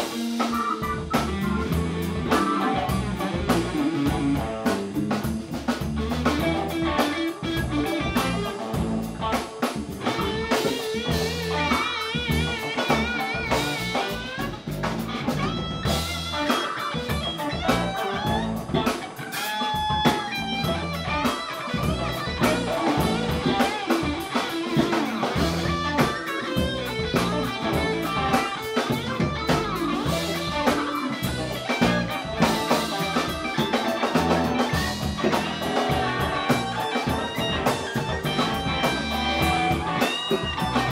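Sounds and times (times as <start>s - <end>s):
drum kit beat: 0.0s - 40.9s
electric guitars: 0.0s - 40.9s
keyboard: 0.0s - 40.9s.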